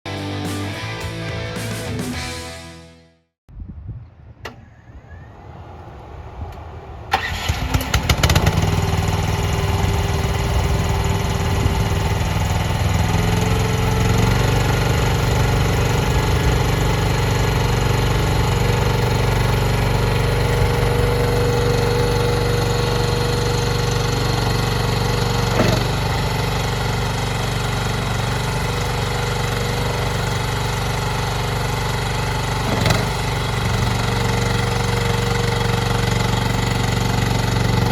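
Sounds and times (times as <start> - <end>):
engine starting and running: 6.5 - 37.9.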